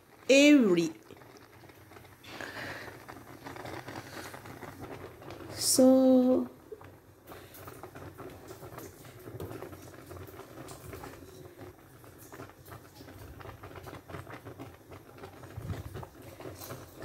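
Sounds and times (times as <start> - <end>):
soup bubbling in a pot: 0.0 - 17.0.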